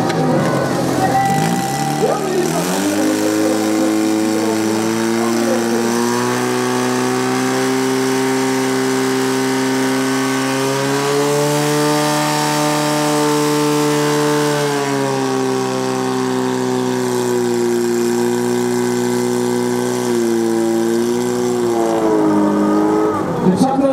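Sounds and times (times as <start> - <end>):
fire pump engine running: 0.0 - 23.9.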